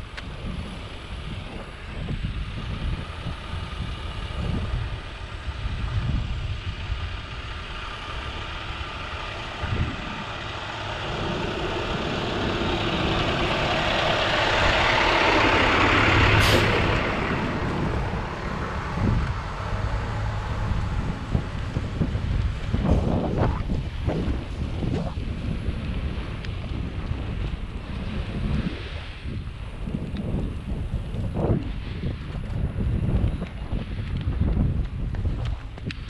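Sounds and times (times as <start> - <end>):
large vehicle approaching: 0.0 - 36.0
wind rumble on microphone: 0.0 - 36.0.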